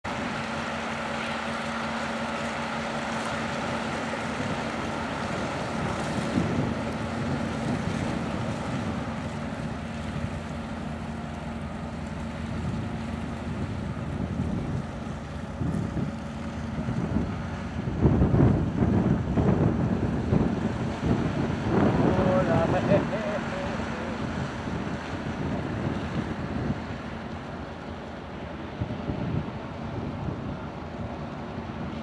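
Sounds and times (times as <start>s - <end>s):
boat diesel engine humming: 0.0s - 32.0s
wind buffeting microphone: 0.1s - 32.0s.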